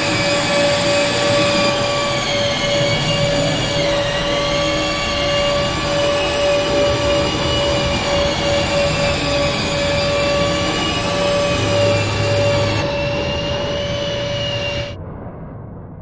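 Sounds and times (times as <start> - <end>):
drywall sander whining: 0.0 - 15.0.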